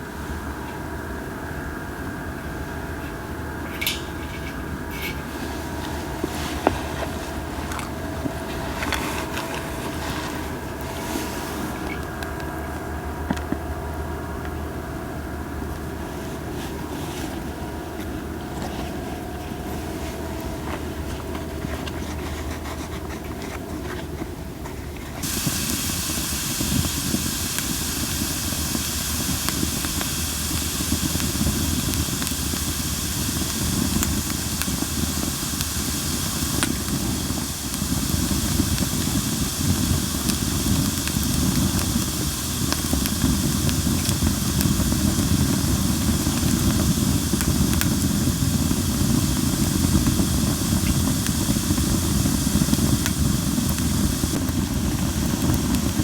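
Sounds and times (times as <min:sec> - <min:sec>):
campfire hissing: 0:00.0 - 0:56.0
fire crackling and popping: 0:03.6 - 0:14.8, 0:15.4 - 0:56.0.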